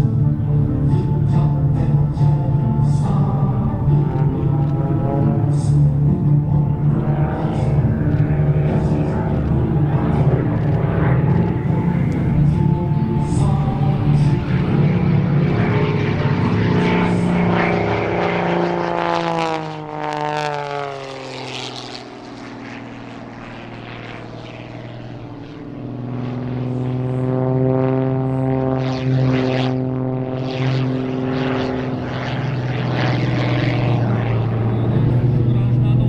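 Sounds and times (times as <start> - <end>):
propeller plane engine in flight: 0.0 - 36.0.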